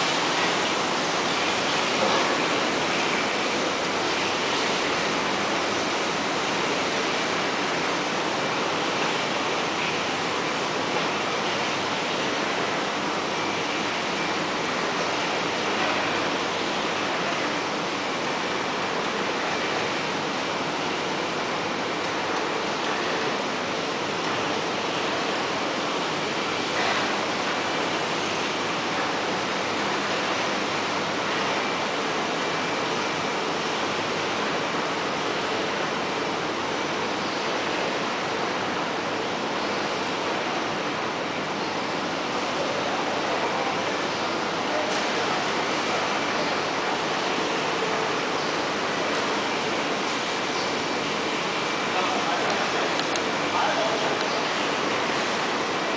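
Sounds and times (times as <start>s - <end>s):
factory machinery running: 0.0s - 55.9s.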